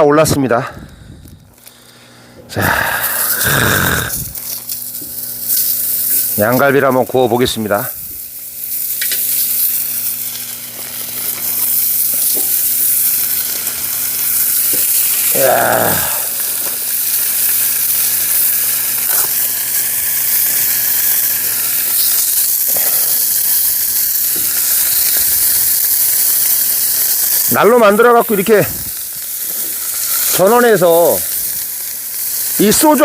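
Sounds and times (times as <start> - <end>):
ribs sizzling on stove top: 1.4 - 33.0.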